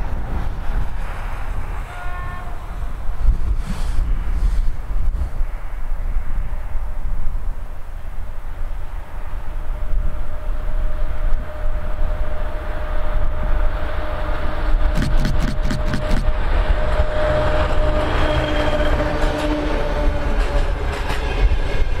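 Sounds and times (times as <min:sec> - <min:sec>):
train engine and wheels rumbling: 0:00.0 - 0:22.0.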